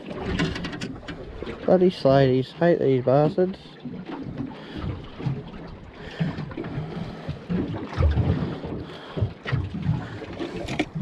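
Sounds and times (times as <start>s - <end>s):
water slapping against hull: 0.0s - 11.0s.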